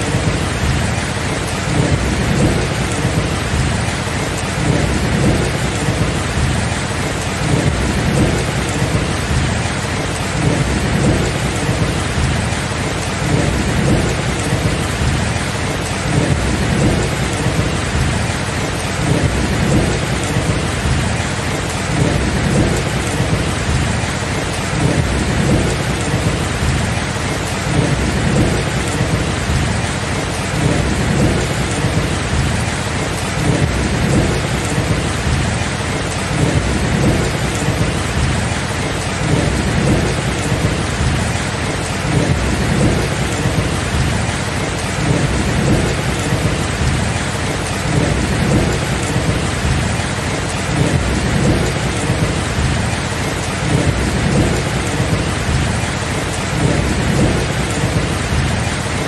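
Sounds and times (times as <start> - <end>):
steady rain: 0.0 - 59.0
thunder rumbling: 0.0 - 59.0.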